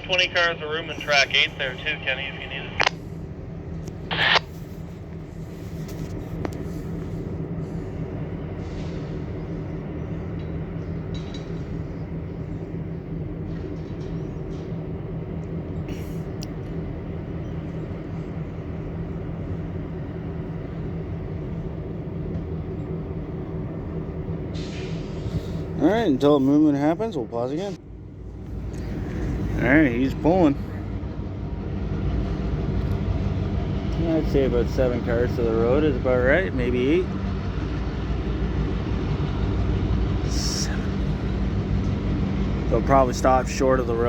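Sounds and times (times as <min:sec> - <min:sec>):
diesel locomotives idling: 0:00.0 - 0:44.0.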